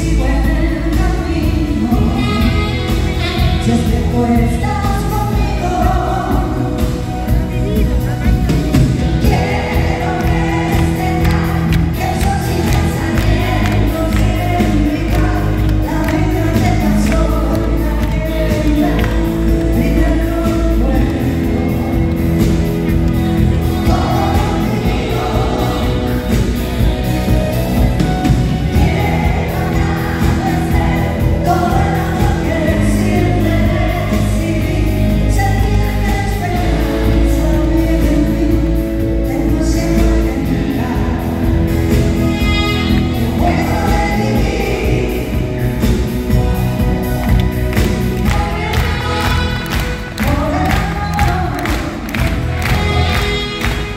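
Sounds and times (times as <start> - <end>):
live band playing: 0.0 - 53.9
woman singing lead: 0.0 - 53.9
backing singers: 8.4 - 53.9.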